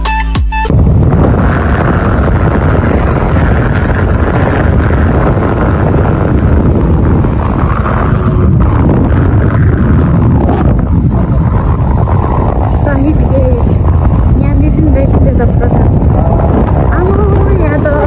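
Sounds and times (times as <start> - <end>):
motorbike engine and road noise: 0.7 - 18.0
wind buffeting microphone: 0.7 - 18.0.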